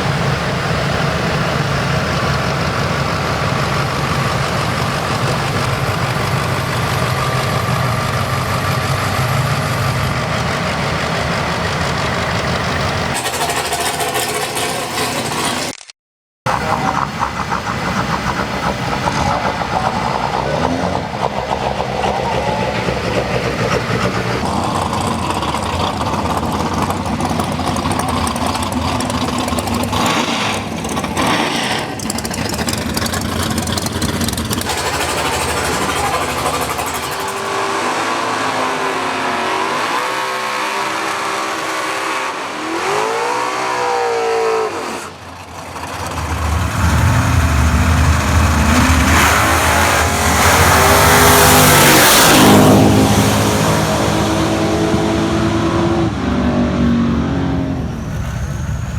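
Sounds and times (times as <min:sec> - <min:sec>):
race engines revving: 0:00.0 - 0:15.7, 0:16.5 - 0:58.9.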